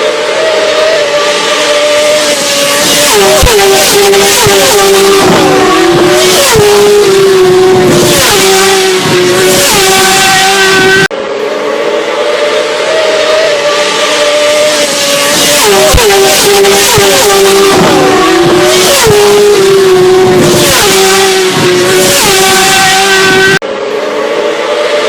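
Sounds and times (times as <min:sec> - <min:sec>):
motorcycles passing at speed: 0:00.0 - 0:25.0.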